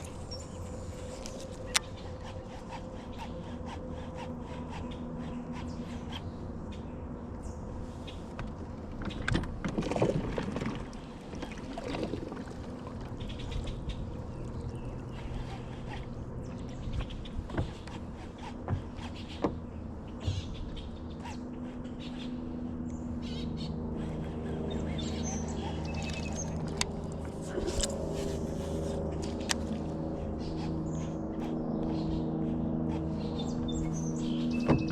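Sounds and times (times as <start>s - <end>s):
birds calling: 0.0s - 34.9s
steady low hum: 0.0s - 34.9s.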